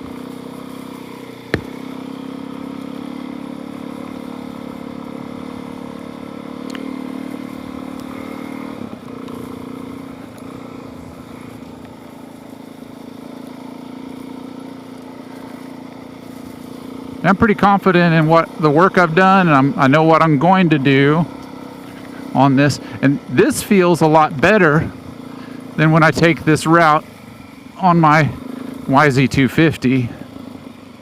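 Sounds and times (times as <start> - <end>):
dirt bike engine running: 0.0 - 31.0.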